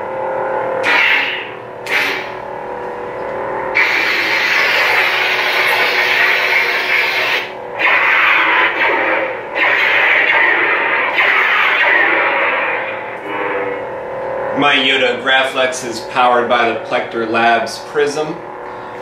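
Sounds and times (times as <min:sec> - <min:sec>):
lightsaber electronic hum: 0:00.0 - 0:19.0.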